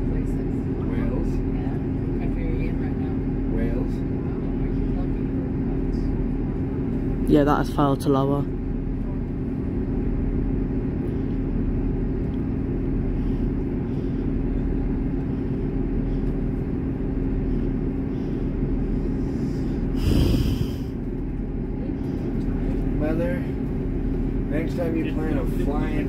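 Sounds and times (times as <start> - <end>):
diesel train idling hum: 0.0 - 26.0.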